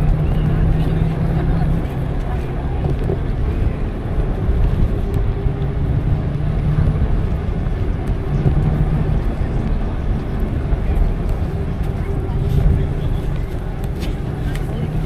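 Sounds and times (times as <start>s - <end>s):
bike rolling noise: 0.0s - 15.0s
wind rumble: 0.0s - 15.0s.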